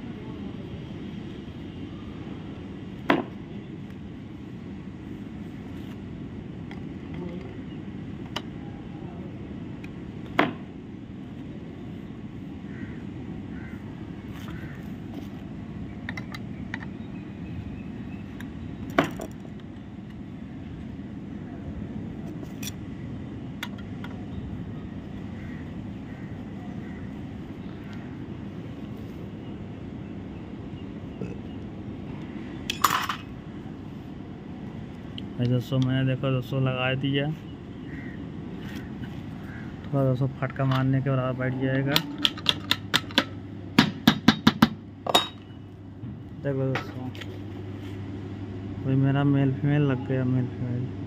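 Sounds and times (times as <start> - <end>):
low background hum: 0.0 - 51.0.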